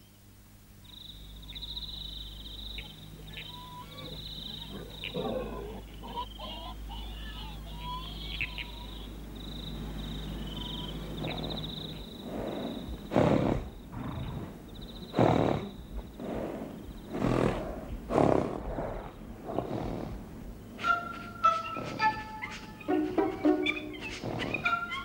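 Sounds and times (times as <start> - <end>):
night insects chirring: 0.0 - 25.0
horses snoring: 2.5 - 7.0, 9.1 - 25.0.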